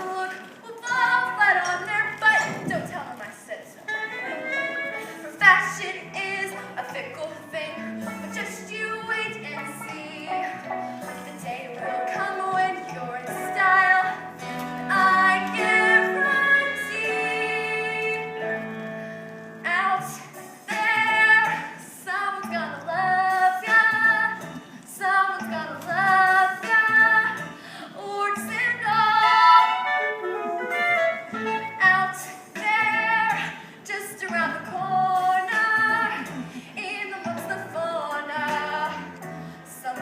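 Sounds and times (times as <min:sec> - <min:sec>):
woman singing: 0:00.0 - 0:04.0, 0:05.3 - 0:18.8, 0:19.6 - 0:40.0
instrumental accompaniment: 0:00.0 - 0:40.0.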